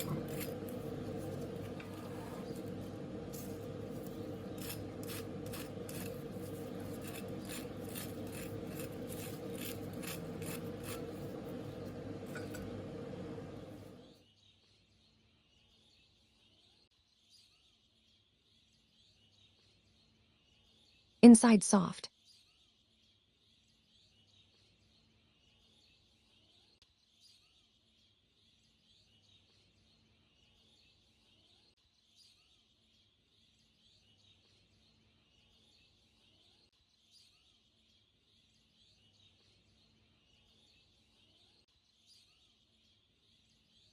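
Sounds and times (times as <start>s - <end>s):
faint bird chirping: 0.0s - 43.9s.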